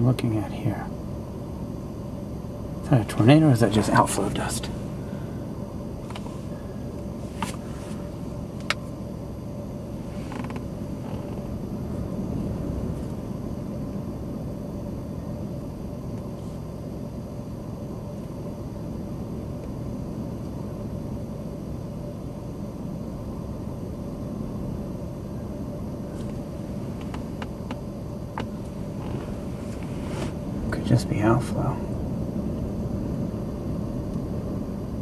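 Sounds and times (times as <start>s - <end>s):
faint hum: 0.0s - 35.0s
low background rumble: 0.0s - 35.0s.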